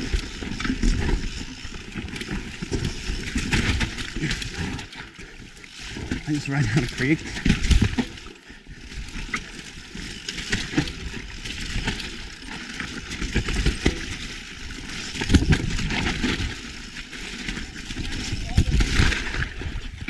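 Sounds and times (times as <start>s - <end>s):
bike rattling over rocks: 0.0s - 20.0s
mountain bike tyres on rocky trail: 0.0s - 20.0s.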